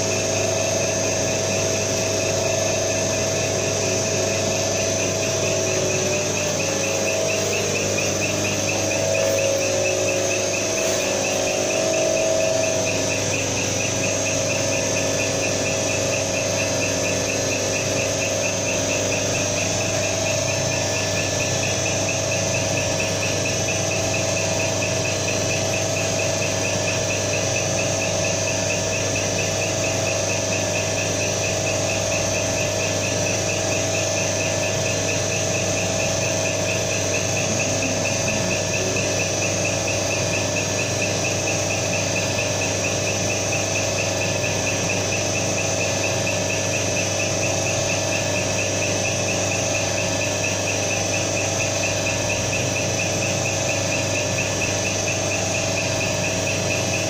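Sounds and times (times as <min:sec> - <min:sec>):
fast even injector ticking: 0:00.0 - 0:57.0
motor and pump hum: 0:00.0 - 0:57.0.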